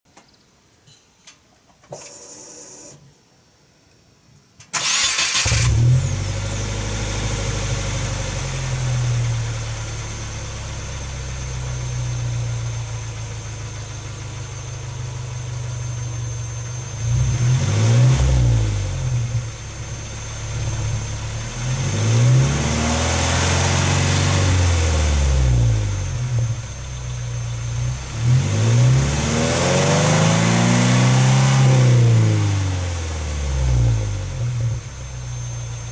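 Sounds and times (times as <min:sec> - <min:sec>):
car engine starting and revving: 0:04.8 - 0:35.9.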